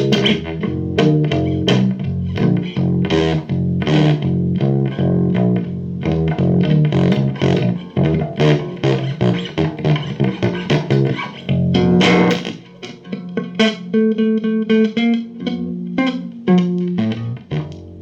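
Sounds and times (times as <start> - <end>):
bass guitar line: 0.0 - 18.0
plucked guitar notes: 0.0 - 18.0.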